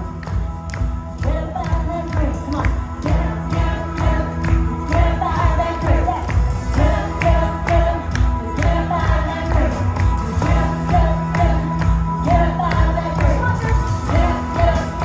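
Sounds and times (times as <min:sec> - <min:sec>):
steady drum beat: 0:00.0 - 0:15.0
worship band playing: 0:00.0 - 0:15.0
voices singing: 0:01.2 - 0:15.0.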